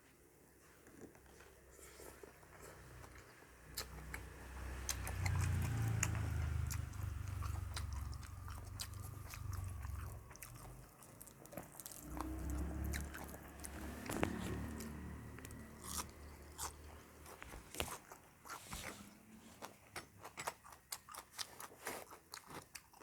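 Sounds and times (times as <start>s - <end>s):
chewing with sharp crunches: 0.8s - 23.0s.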